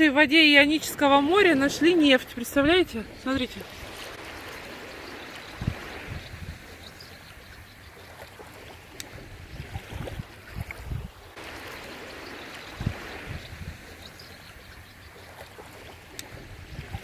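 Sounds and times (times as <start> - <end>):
water lapping at shoreline: 0.0 - 17.0.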